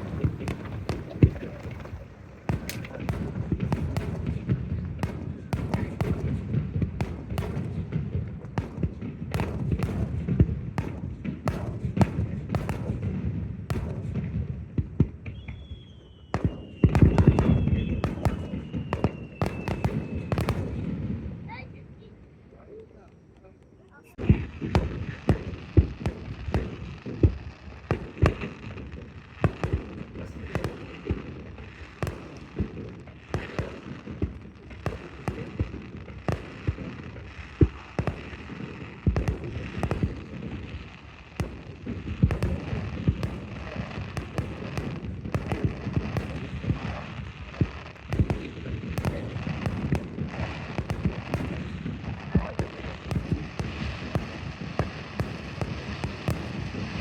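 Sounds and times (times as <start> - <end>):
steady rumbling haze: 0.0 - 14.8, 23.8 - 57.0
fireworks bangs and crackles: 0.0 - 57.0.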